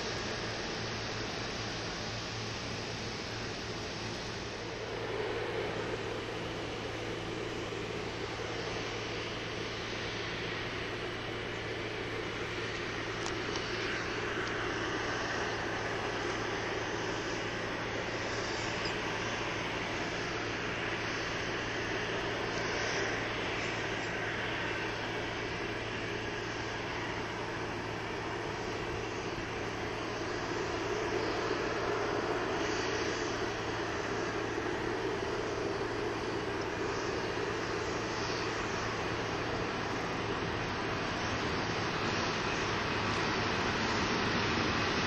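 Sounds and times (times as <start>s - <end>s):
jet engines running: 0.0s - 45.0s.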